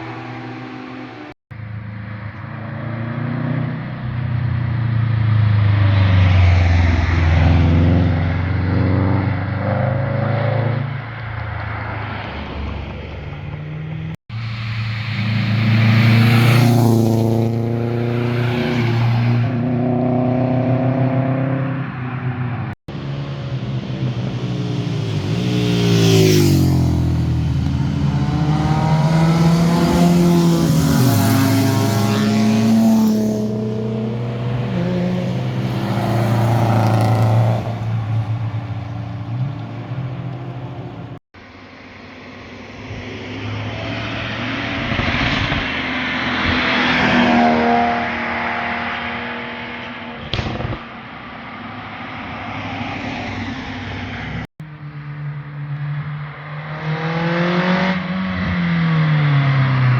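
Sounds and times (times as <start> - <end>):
sports cars revving past: 2.5 - 41.2, 42.5 - 54.5, 55.8 - 59.9.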